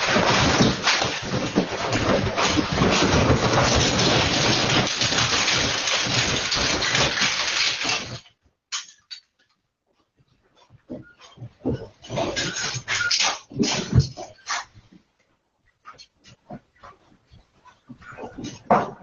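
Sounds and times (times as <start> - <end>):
building rattling and rumbling: 0.0 - 8.4, 10.6 - 19.0.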